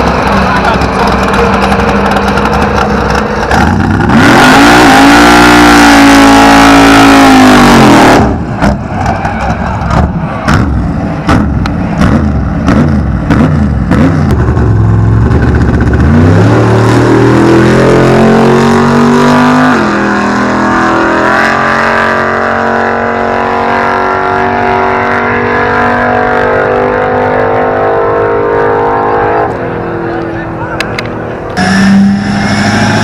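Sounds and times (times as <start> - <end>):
truck engine accelerating hard: 0.0 - 33.0.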